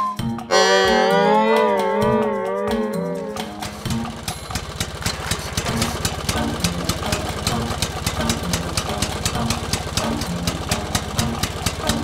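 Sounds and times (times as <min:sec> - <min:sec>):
tractor engine chugging: 0:00.5 - 0:12.0.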